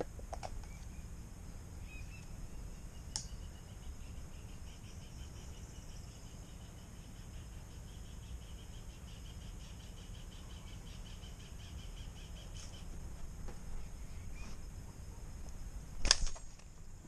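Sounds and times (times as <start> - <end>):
insects chirping: 0.0 - 17.0
steady high-pitched buzz: 0.0 - 17.0.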